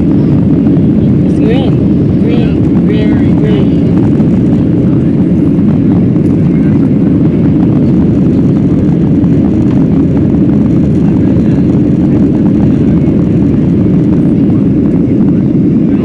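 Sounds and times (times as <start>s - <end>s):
airliner cabin engine noise: 0.0s - 16.0s.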